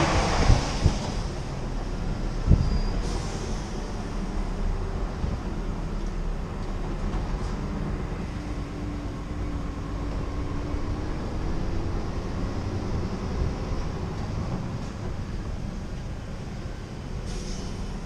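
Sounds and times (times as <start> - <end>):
road rumble: 0.0 - 18.0
truck diesel engine rumble: 0.0 - 18.0.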